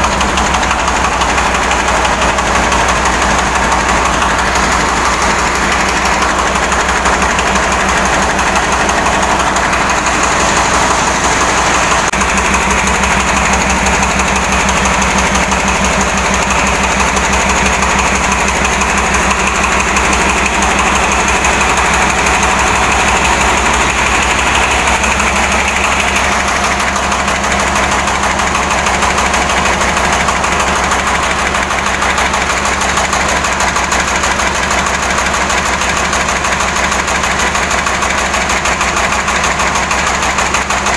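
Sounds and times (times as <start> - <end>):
tractor engine chugging: 0.0 - 40.9.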